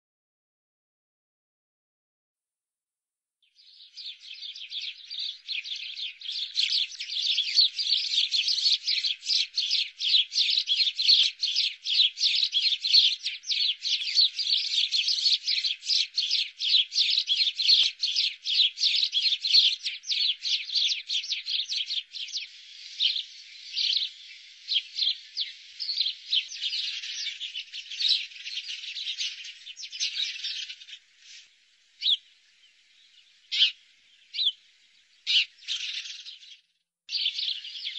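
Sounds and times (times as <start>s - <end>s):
sparrows chirping: 3.4s - 37.9s.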